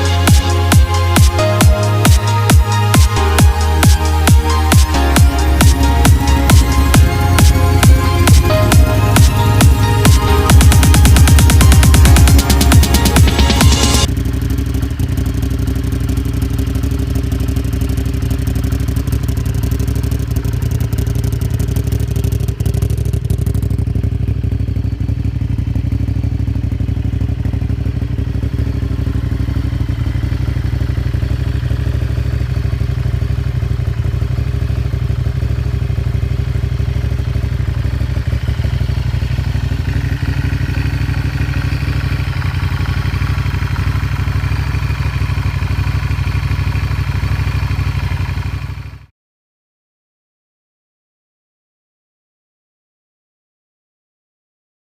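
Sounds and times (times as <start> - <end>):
motorcycle engine idling: 0.0 - 49.1.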